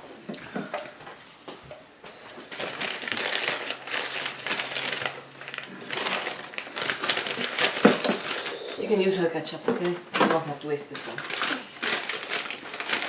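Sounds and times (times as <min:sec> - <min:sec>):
food packaging crinkling: 0:02.1 - 0:13.0.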